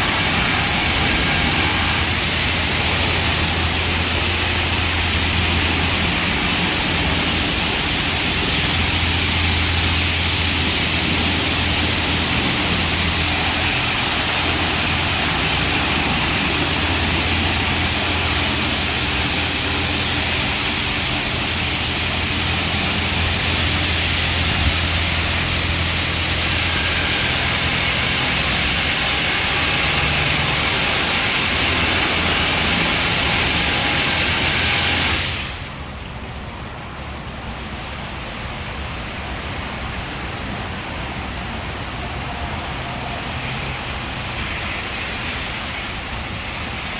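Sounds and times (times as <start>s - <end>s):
car wash machinery rushing hiss: 0.0s - 46.9s
low machinery hum: 0.0s - 46.9s.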